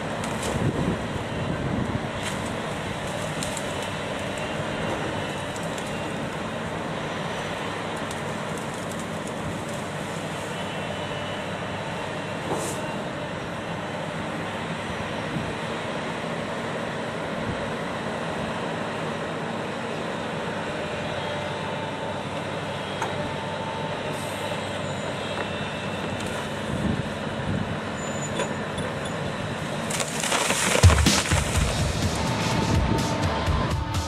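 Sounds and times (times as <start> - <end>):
heavy machine engine running: 0.0 - 34.0.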